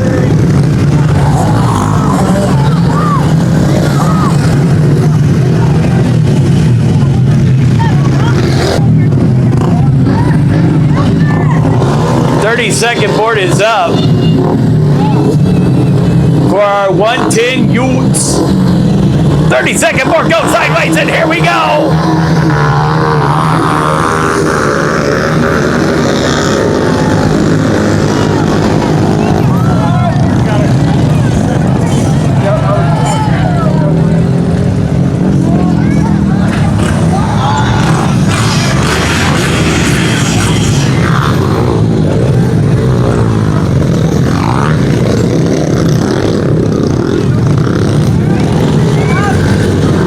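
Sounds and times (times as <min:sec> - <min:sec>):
pit bike engines revving: 0:00.0 - 0:50.0.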